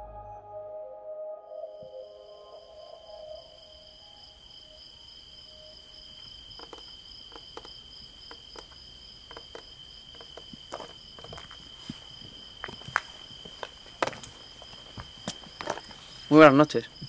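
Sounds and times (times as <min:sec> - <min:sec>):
crickets trilling: 0:01.8 - 0:17.0.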